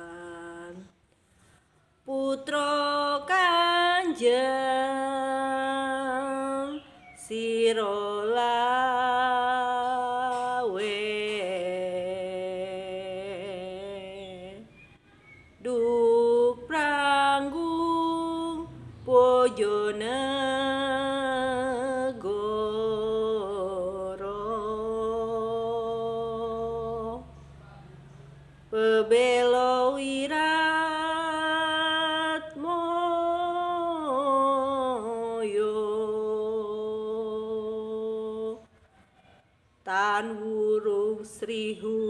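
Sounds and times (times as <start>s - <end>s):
woman singing unaccompanied: 0.0s - 1.0s, 1.9s - 38.8s, 39.8s - 42.0s.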